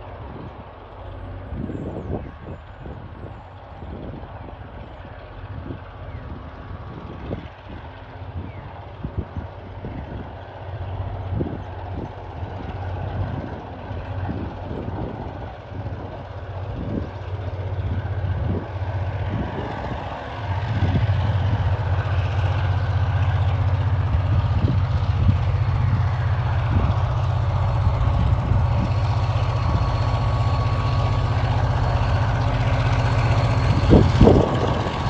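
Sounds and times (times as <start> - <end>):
diesel locomotive engine drone: 0.0 - 35.0.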